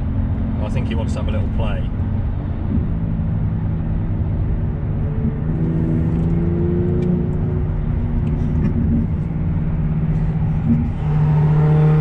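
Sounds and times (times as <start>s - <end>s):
car engine: 0.0s - 12.0s
road rumble: 0.0s - 12.0s.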